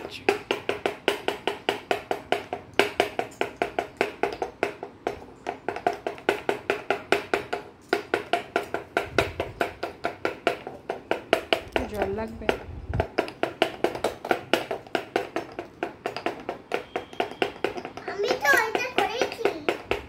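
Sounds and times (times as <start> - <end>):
wooden pestle tapping in mortar: 0.0 - 20.0.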